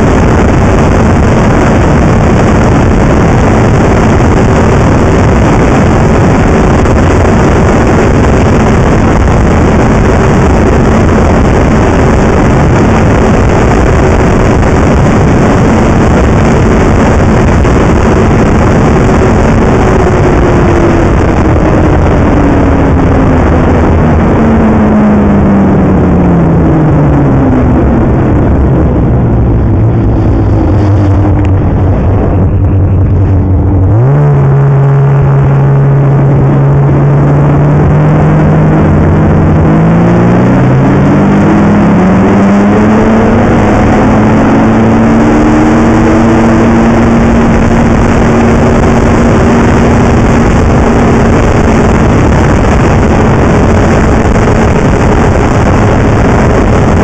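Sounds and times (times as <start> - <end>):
rushing wind and track noise: 0.0 - 57.0
snowmobile engine running: 0.0 - 57.0.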